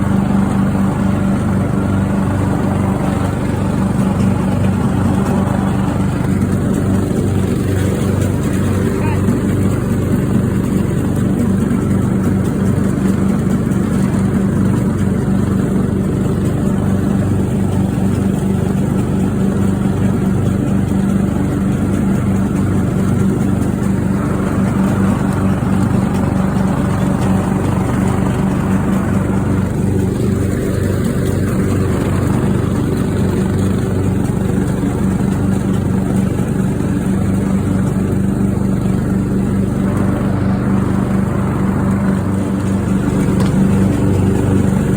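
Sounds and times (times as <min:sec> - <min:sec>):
riding mower engine running: 0:00.0 - 0:44.9.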